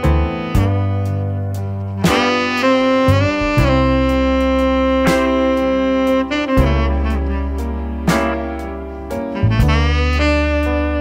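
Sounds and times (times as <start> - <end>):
instrumental chords over bass line: 0.0 - 11.0.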